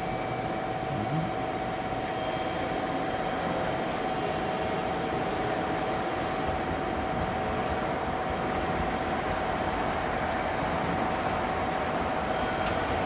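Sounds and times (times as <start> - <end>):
locomotive whine: 0.0 - 13.0
train hiss and rumble: 0.0 - 13.0.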